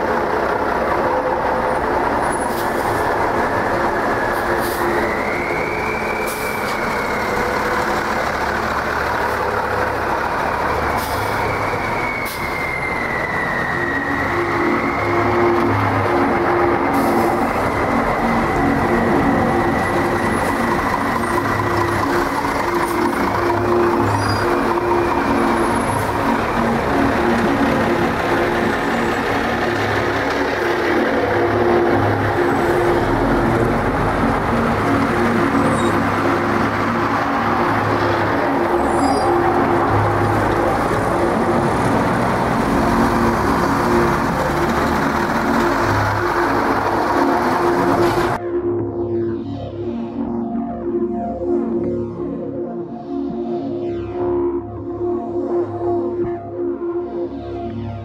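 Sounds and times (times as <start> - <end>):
truck engine drone: 0.0 - 58.0.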